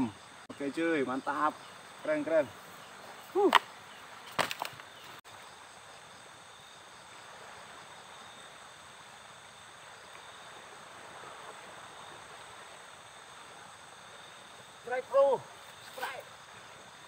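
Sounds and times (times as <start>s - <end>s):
crickets chirring: 0.0s - 17.0s
river water rushing: 1.6s - 17.0s.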